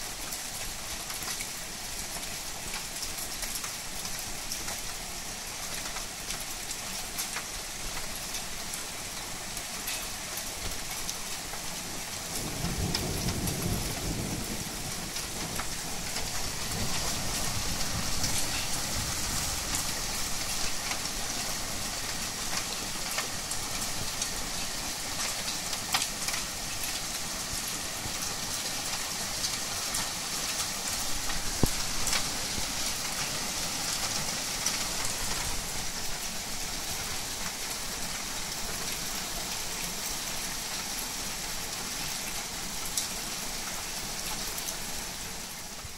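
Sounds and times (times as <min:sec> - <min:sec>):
heavy rain pouring: 0:00.0 - 0:45.9
raindrops tapping close by: 0:00.0 - 0:45.9.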